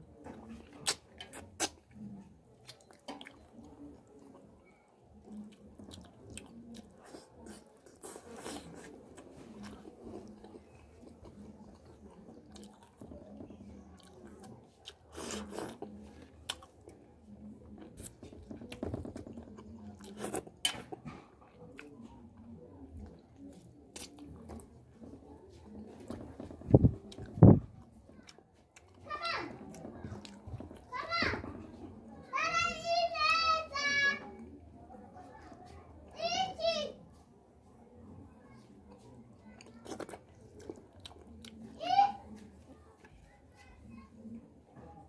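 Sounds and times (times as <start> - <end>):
chewing food: 0.1 - 30.9, 38.5 - 45.0.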